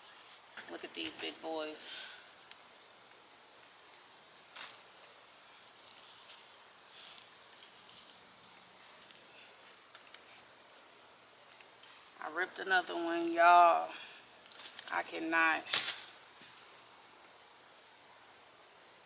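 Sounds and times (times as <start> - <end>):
high insect drone: 0.0 - 19.0
rustling and scraping of soil: 0.0 - 19.0.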